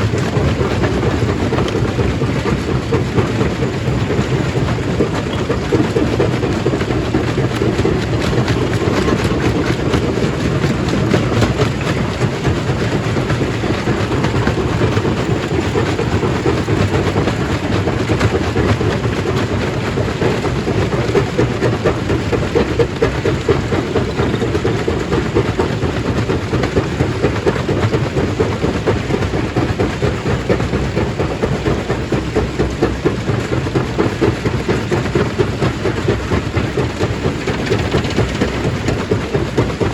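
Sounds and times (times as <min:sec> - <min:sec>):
stone crushing machine running: 0:00.0 - 0:39.9.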